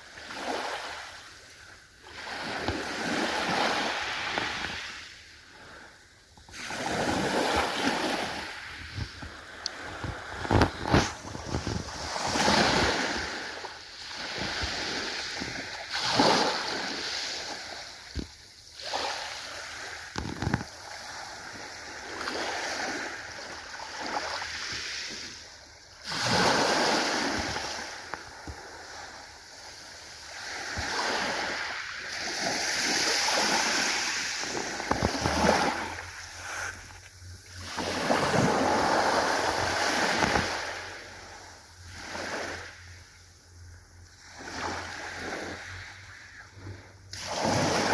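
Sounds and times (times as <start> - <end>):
ocean waves breaking: 0.1 - 43.0, 44.2 - 47.9.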